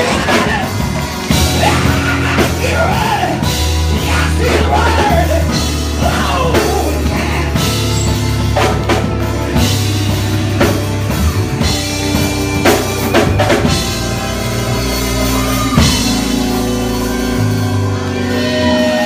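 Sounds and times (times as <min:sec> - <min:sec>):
gospel band playing: 0:00.0 - 0:19.0.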